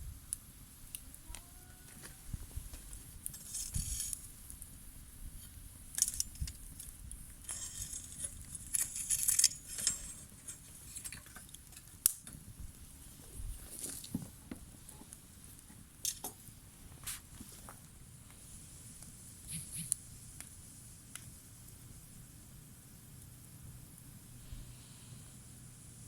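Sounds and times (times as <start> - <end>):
faint hiss: 0.0 - 26.0
wood fire crackling and popping: 2.0 - 24.1.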